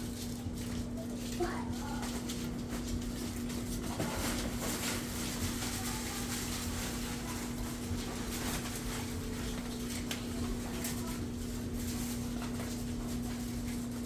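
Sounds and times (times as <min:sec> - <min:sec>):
puppies playing and scuffling: 0:00.0 - 0:14.0.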